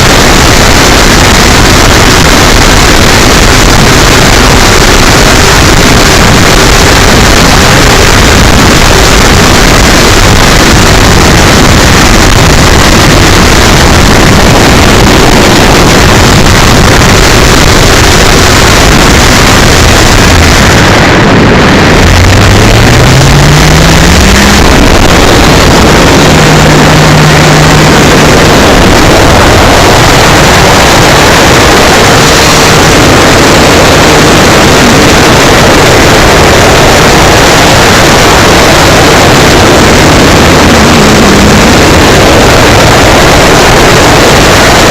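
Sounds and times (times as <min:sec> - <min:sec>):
distorted wind noise: 0:00.0 - 0:44.9
electric motor and propeller tone: 0:00.0 - 0:44.9.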